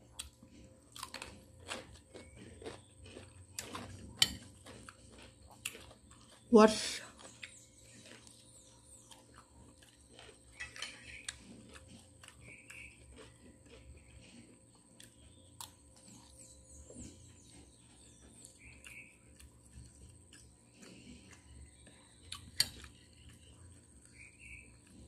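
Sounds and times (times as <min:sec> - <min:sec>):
chewing and mouth noises: 0:00.0 - 0:25.0.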